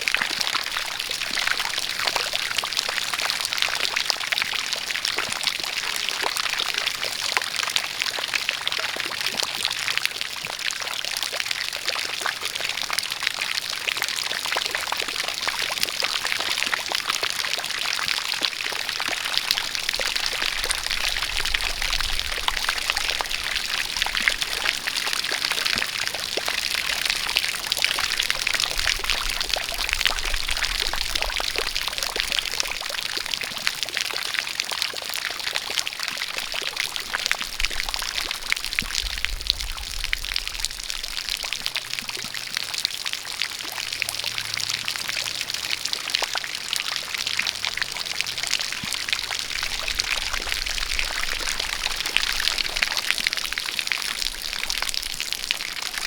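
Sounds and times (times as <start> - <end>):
jet of water pouring: 0.0 - 56.0
raindrops pattering: 0.0 - 56.0.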